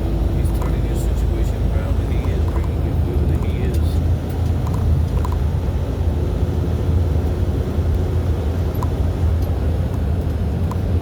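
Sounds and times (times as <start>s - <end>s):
road noise: 0.0s - 11.0s
truck engine rumbling: 0.0s - 11.0s.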